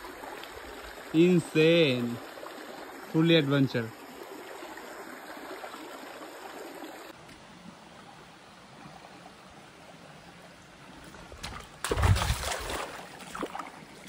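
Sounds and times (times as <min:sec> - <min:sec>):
stream trickling over rocks: 0:00.0 - 0:07.2, 0:07.8 - 0:14.0.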